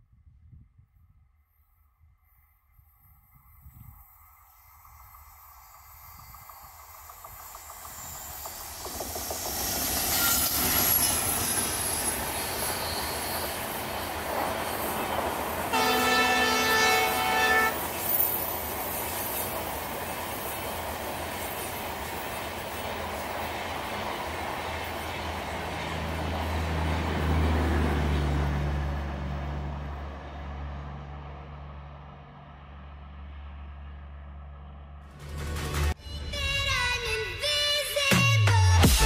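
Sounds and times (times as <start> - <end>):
passenger train passing: 1.5 - 38.1.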